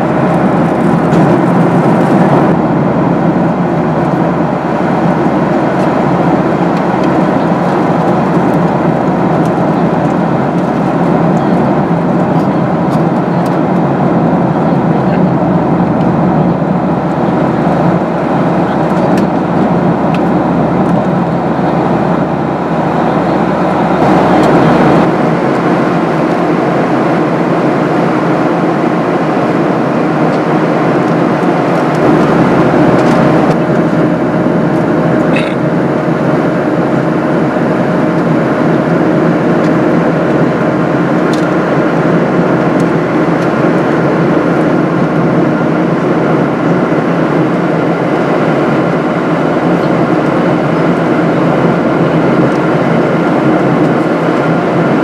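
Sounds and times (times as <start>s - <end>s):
higher hum: 0.0s - 55.0s
jet engine cabin rush: 0.0s - 55.0s.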